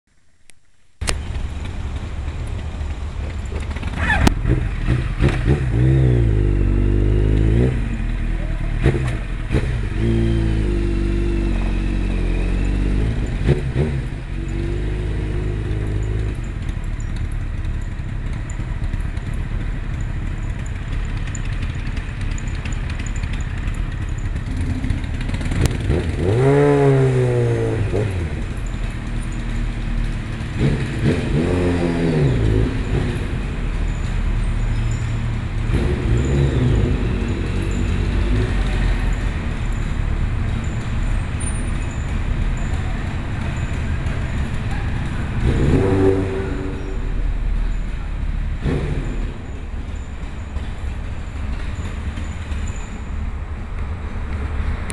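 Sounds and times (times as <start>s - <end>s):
motorcycle engine revving: 1.0s - 54.9s.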